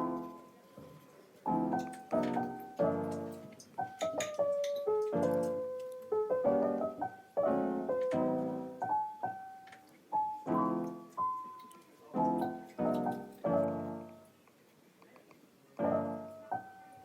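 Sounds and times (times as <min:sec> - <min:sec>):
piano playing chords: 0:00.0 - 0:00.6, 0:01.4 - 0:14.3, 0:15.8 - 0:17.0.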